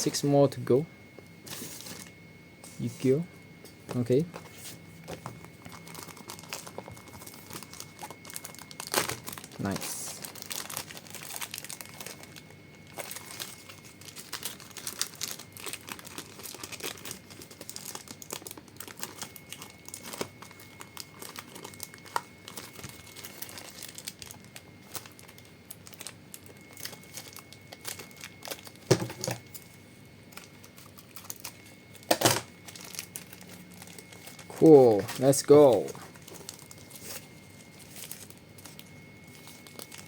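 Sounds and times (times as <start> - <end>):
plastic packaging crinkling: 5.0 - 40.0.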